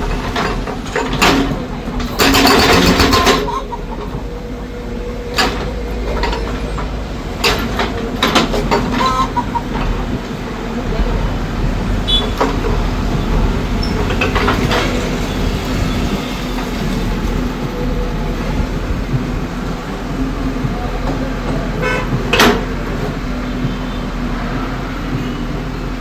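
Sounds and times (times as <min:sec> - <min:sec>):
heavy machinery engine running: 0:00.0 - 0:26.0.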